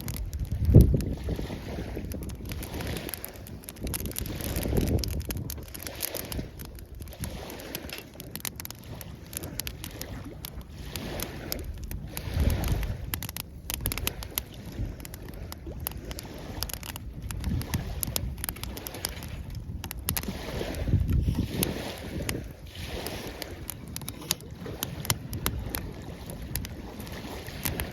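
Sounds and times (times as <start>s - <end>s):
campfire crackling and popping: 0.0s - 27.9s
small waves washing ashore: 0.0s - 27.9s.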